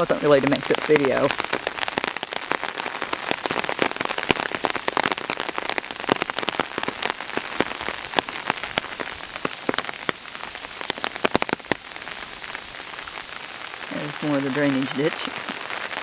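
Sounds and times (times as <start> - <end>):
sharp raindrops hitting close by: 0.0 - 16.0
steady rain falling: 0.0 - 16.0.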